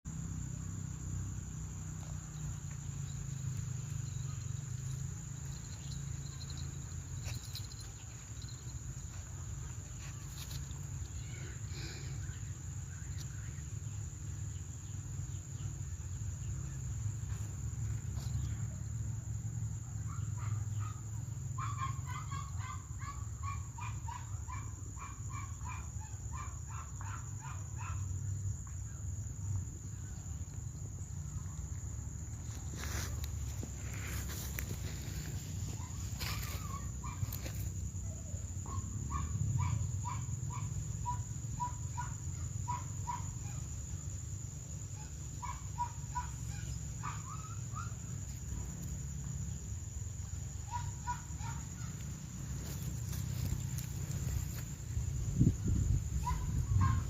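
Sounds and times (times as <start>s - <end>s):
high insect drone: 0.1s - 57.0s.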